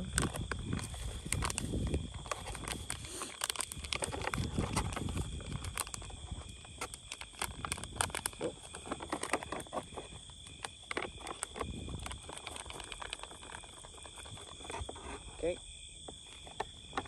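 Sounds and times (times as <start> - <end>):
plastic bag and paper crinkling: 0.0 - 15.5.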